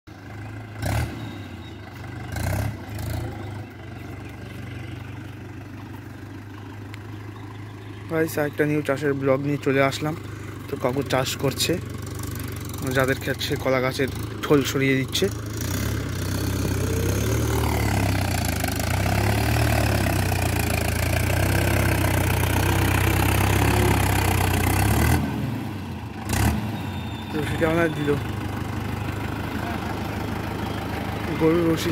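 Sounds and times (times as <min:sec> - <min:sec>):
tractor diesel engine under load: 0:00.1 - 0:31.9.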